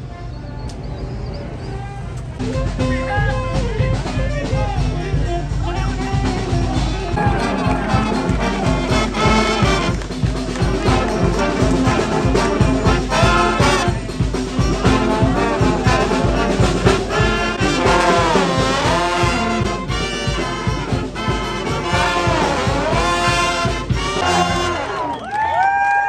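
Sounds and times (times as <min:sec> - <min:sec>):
steady jazz beat: 0:02.4 - 0:25.1
trombone and trumpet melody: 0:02.4 - 0:25.2.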